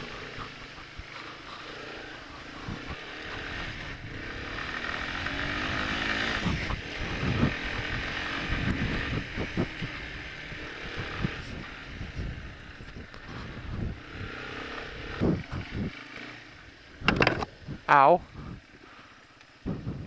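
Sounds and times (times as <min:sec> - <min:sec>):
quad bike engine revving: 0:00.0 - 0:17.6
wind buffeting microphone: 0:02.1 - 0:16.0, 0:16.6 - 0:18.9, 0:19.6 - 0:20.0.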